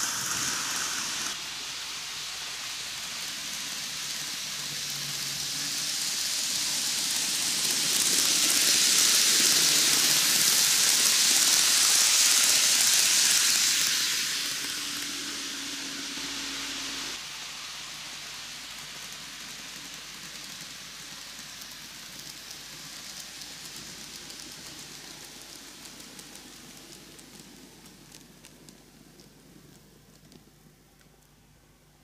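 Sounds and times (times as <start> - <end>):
model train wheels hissing on rails: 0.0 - 32.0.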